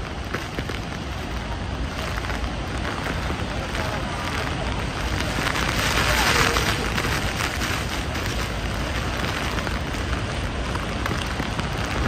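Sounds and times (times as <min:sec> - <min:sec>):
waterfall roaring: 0:00.0 - 0:12.0
wind on microphone: 0:00.0 - 0:12.0.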